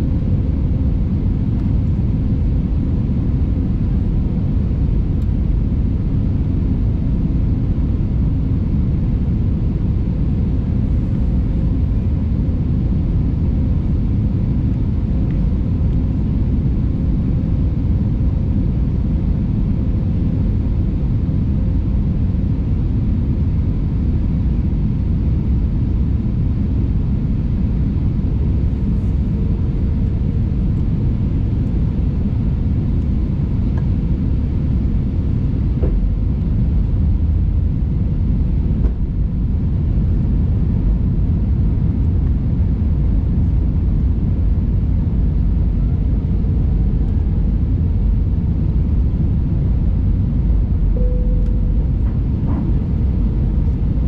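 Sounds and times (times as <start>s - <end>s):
airliner cabin engine rumble: 0.0s - 54.0s
faint steady hum: 0.0s - 54.0s.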